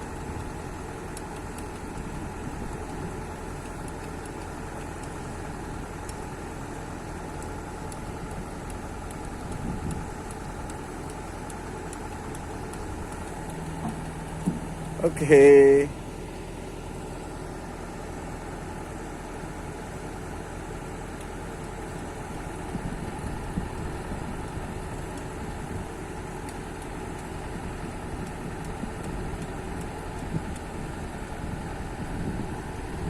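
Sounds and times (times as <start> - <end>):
excavator engine idling: 0.0 - 33.0.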